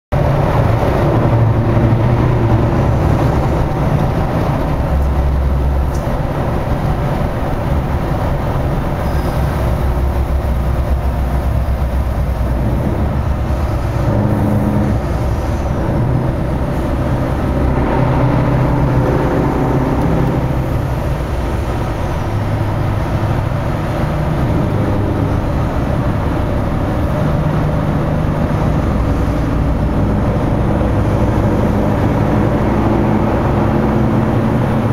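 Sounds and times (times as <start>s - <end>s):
truck engine cruising: 0.1s - 34.9s
tyre and traffic noise: 0.1s - 34.9s.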